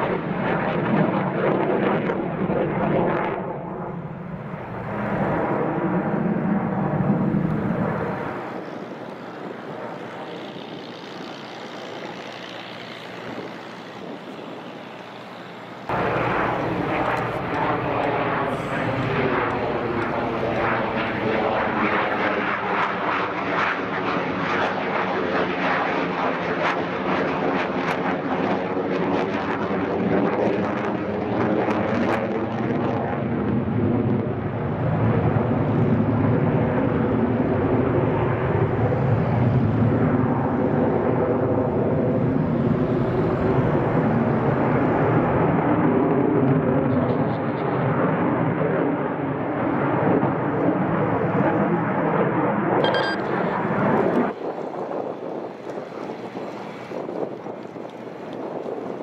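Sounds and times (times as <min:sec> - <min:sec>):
jet engine roaring overhead: 0:00.0 - 0:59.0.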